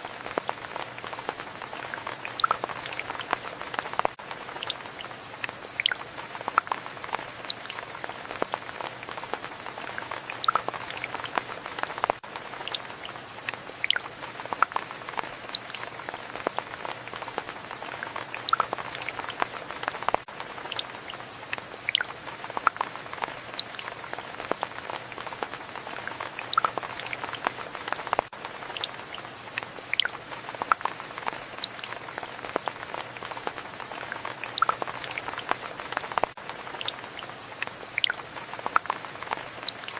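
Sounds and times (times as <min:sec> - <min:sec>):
rain drops dripping: 0:00.0 - 0:39.9.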